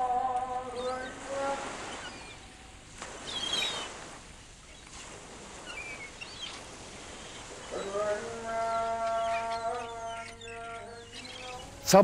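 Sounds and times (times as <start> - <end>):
water washing: 0.0 - 12.0
short bird calls: 0.5 - 12.0.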